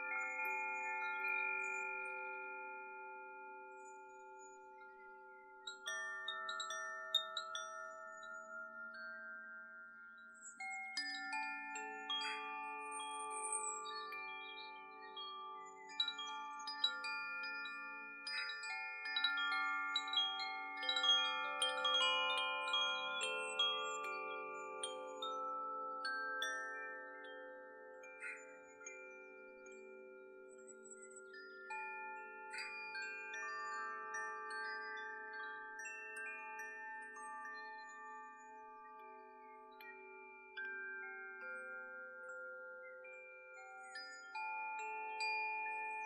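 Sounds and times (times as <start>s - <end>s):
wind chimes ringing: 0.0s - 46.0s.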